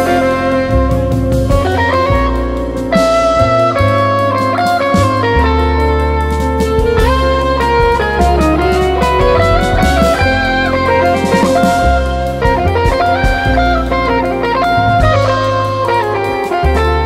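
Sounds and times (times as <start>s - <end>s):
drum kit with cymbals: 0.0s - 17.0s
guitar line: 0.0s - 17.0s
upright bass: 0.0s - 17.0s.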